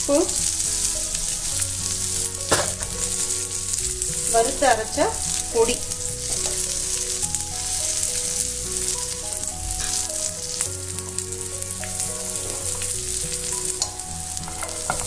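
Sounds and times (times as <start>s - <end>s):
beans sizzling in hot oil: 0.0s - 15.0s
soft background music: 0.0s - 15.0s
wooden spatula scraping pan: 0.0s - 15.0s.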